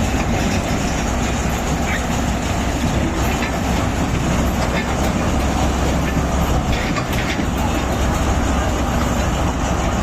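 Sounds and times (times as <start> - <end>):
heavy machinery diesel rumble: 0.0 - 10.0.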